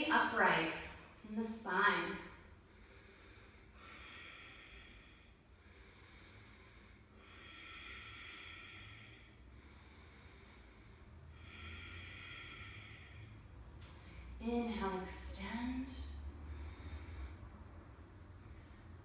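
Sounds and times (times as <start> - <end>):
person breathing slowly: 2.2 - 14.4, 15.6 - 19.0.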